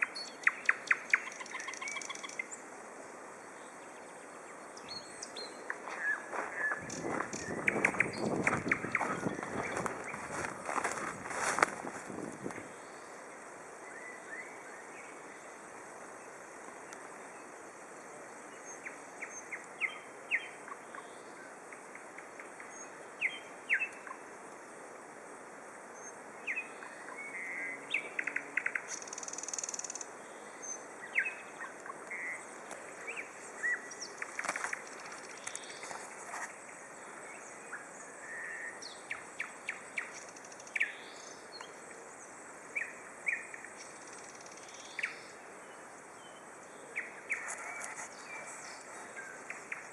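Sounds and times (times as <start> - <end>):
songbirds singing: 0.0 - 24.7, 25.9 - 49.9
faint outdoor hiss: 0.0 - 49.9.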